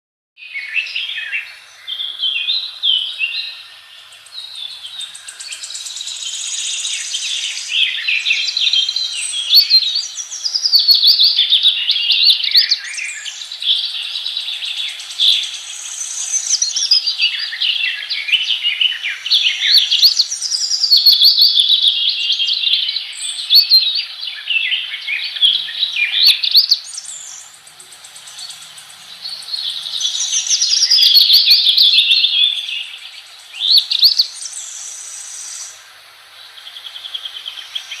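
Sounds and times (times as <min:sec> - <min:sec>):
cage birds chattering and warbling: 0:00.4 - 0:38.0.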